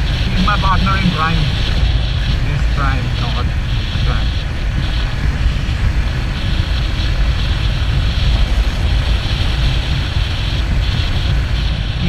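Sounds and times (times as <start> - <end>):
motorcycle engine: 0.0 - 12.0
road noise: 0.0 - 12.0
wind rush on microphone: 0.0 - 12.0.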